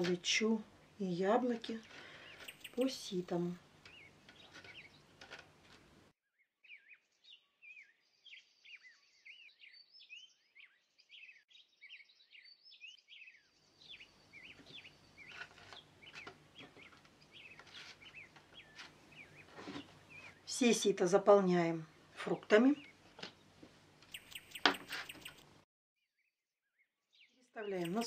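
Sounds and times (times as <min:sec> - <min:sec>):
small birds chirping: 0:00.0 - 0:05.4, 0:06.6 - 0:21.0, 0:21.9 - 0:25.6, 0:26.7 - 0:28.0.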